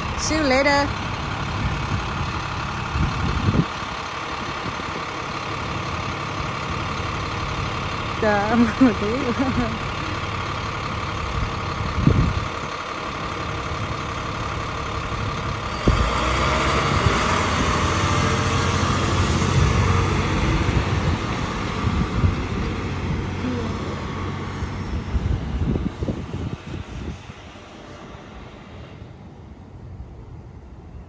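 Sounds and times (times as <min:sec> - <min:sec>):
bus engine idling: 0:00.0 - 0:27.5
bus pulling away: 0:00.0 - 0:31.0.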